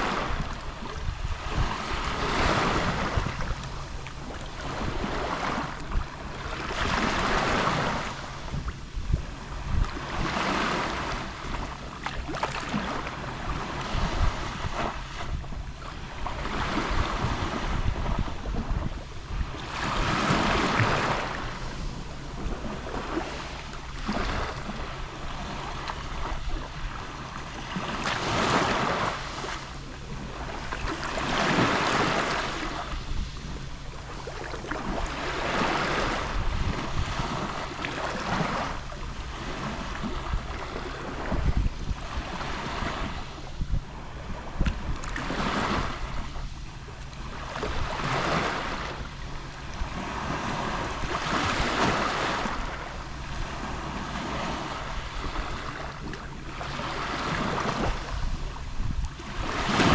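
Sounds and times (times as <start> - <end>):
waves lapping on shore: 0.0 - 59.9
wind on microphone: 0.0 - 59.9.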